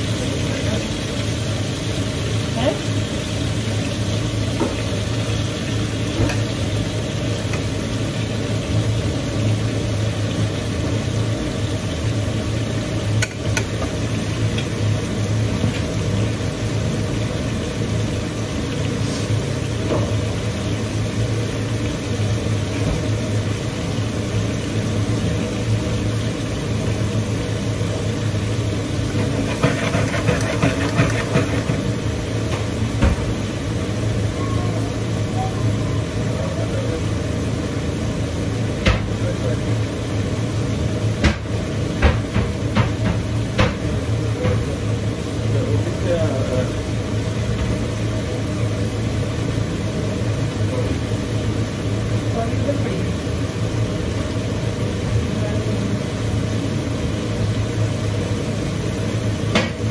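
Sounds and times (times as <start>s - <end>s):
meat sizzling in a pan: 0.0s - 59.9s.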